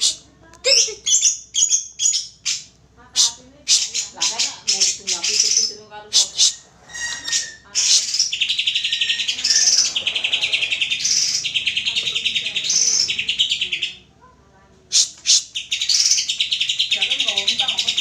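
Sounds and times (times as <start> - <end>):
bird singing fast trills: 0.0 - 14.0, 14.9 - 18.0.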